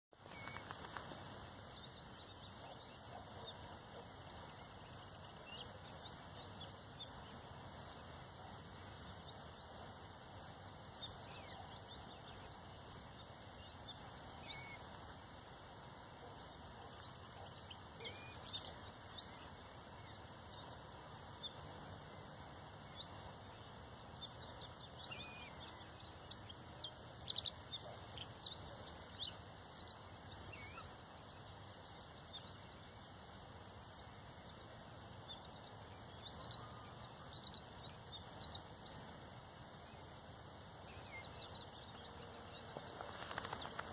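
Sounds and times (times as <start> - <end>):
faint steady hiss: 0.1 - 43.9.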